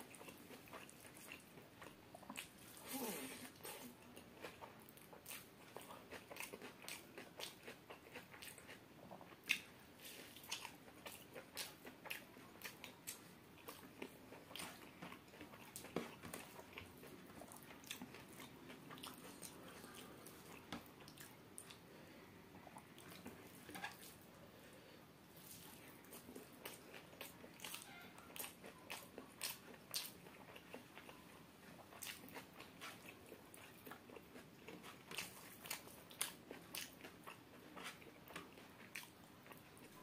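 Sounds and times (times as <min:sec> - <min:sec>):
chewing with wet mouth clicks: 0:04.1 - 0:21.8, 0:25.4 - 0:40.0.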